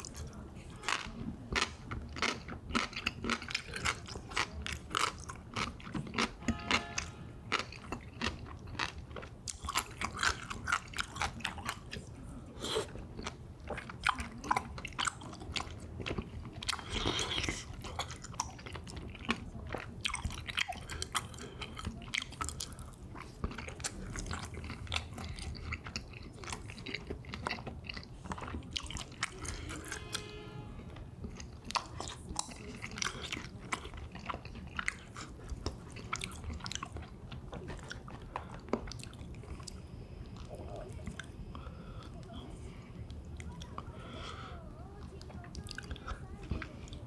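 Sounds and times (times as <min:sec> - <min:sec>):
person chewing crunchy food: 0:00.0 - 0:30.3, 0:31.2 - 0:42.4.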